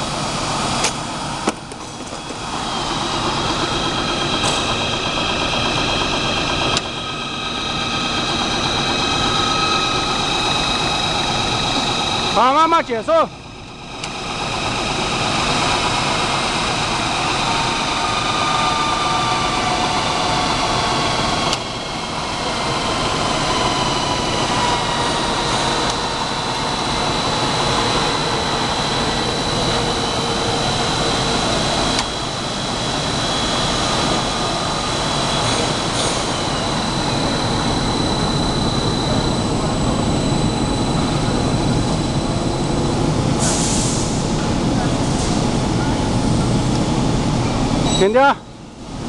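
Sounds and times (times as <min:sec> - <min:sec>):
wire spool machine whirring: 0:00.0 - 0:43.5.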